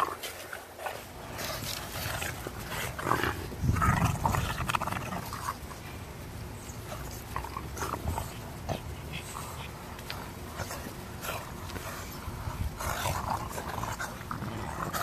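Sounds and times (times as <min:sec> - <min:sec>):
dogs growling playfully: 0:00.0 - 0:05.8, 0:06.8 - 0:15.0
dogs scuffling: 0:00.0 - 0:15.0.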